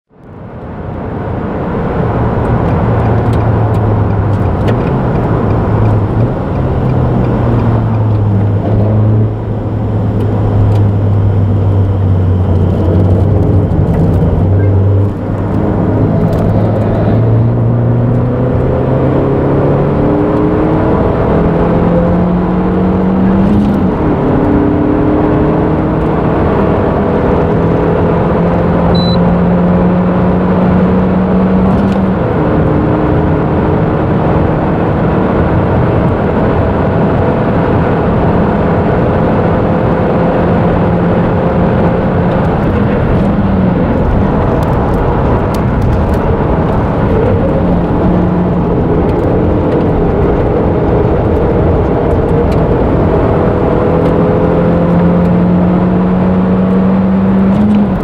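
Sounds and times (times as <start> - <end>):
car engine accelerating: 0.2 - 58.0
tyre and road noise: 0.2 - 58.0.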